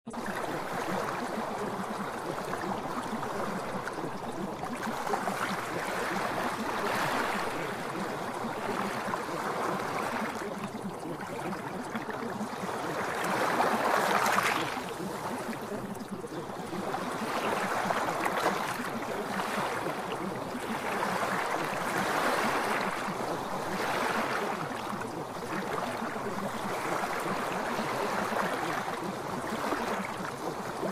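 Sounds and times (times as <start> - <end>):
rushing water: 0.1 - 30.9.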